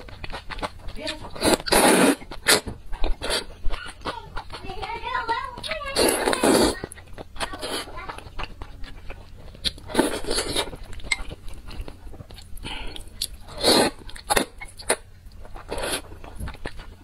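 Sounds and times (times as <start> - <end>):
chewing and biting: 0.0 - 17.0
slurping: 0.0 - 17.0.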